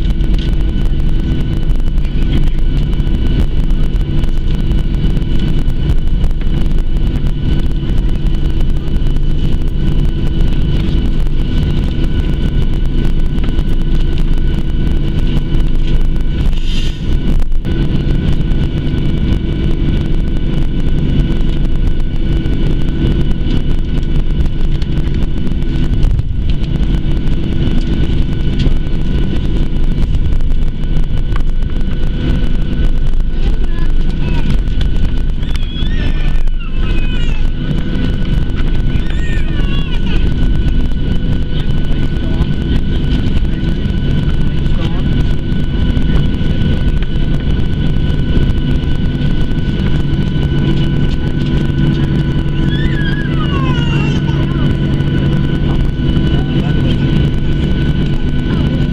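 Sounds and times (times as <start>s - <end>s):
jet engines rumbling in cabin: 0.0s - 58.9s
steady engine tones: 0.0s - 58.9s.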